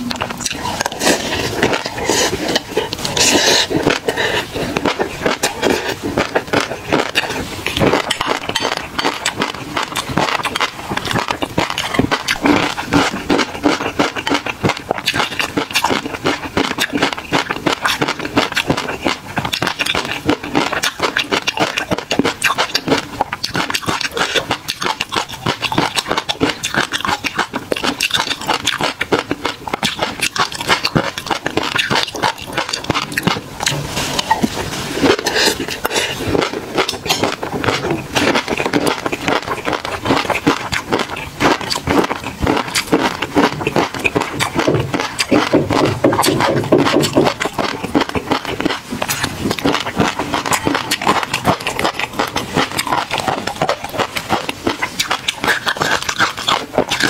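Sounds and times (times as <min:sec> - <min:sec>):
close-miked crunchy chewing: 0:00.0 - 0:57.0.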